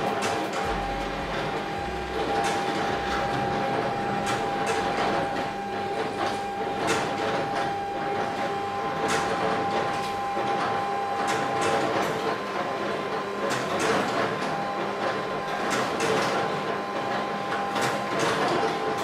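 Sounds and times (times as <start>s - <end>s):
machine whine: 0.0s - 19.0s.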